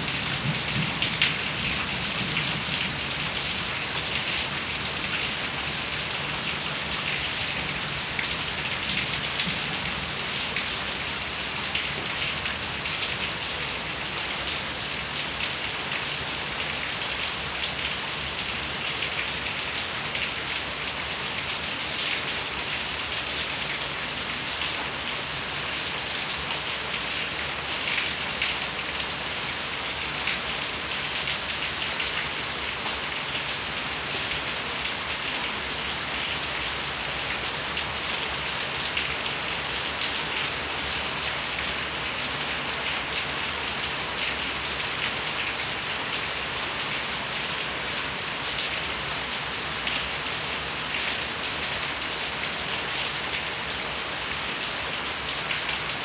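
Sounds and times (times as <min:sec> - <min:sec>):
heavy rain on metal roofs: 0:00.0 - 0:56.0.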